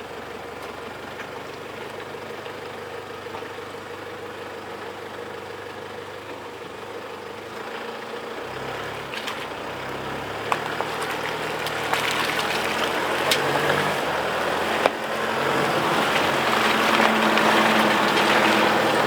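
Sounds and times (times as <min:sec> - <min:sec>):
vehicle engine under load: 0:00.0 - 0:19.0.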